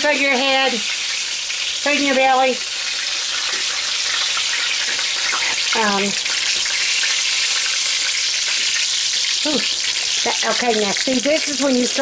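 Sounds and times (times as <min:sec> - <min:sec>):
pork chops sizzling in oil: 0:00.0 - 0:12.0.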